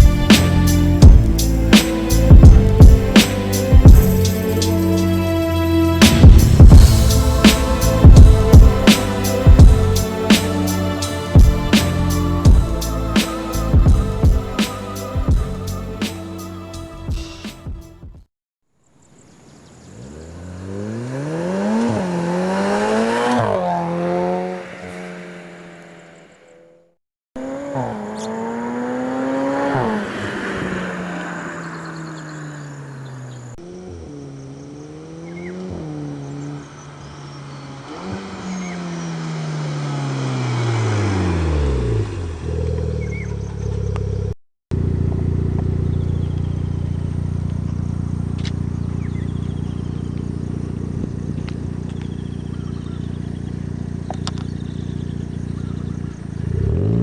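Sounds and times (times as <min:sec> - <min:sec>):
car engine revving: 0:00.0 - 0:16.8, 0:19.8 - 0:26.4, 0:27.4 - 0:57.0.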